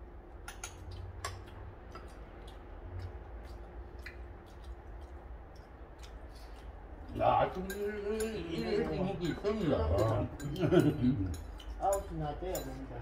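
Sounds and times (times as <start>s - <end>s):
chopsticks clicking on bowls: 0.4s - 13.0s.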